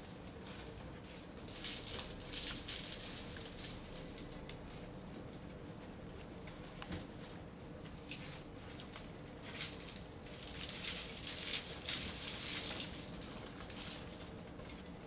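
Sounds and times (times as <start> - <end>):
paws rustling through dry leaves: 0.2 - 14.5.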